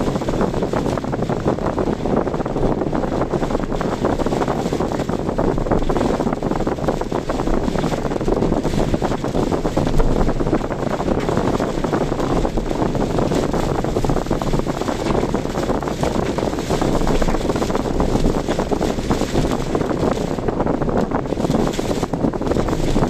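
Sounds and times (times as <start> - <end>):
car road noise: 0.0 - 23.0
fluttering wind rush: 0.0 - 23.0.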